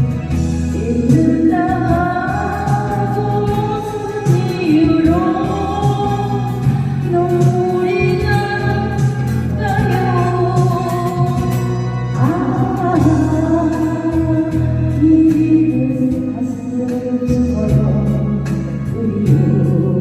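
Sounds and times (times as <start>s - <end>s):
instrumental accompaniment: 0.0s - 20.0s
person singing a slow ballad: 0.0s - 20.0s.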